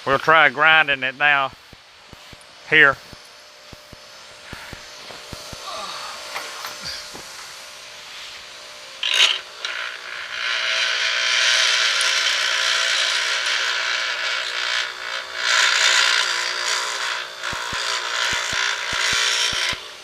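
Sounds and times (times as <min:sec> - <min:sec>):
grinder motor hum: 0:00.0 - 0:20.0
grinding wheel hiss on steel: 0:00.0 - 0:20.0.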